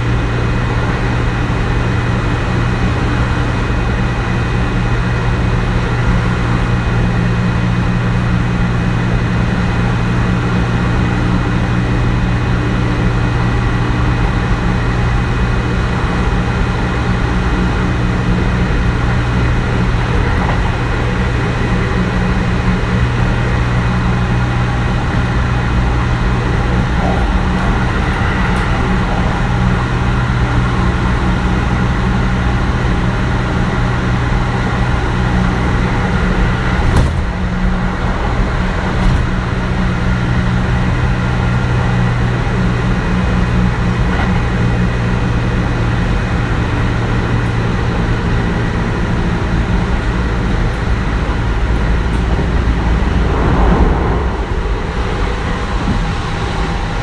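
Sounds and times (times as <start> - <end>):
traction motor hum: 0.0 - 57.0
wheel and rail rumble: 0.0 - 57.0.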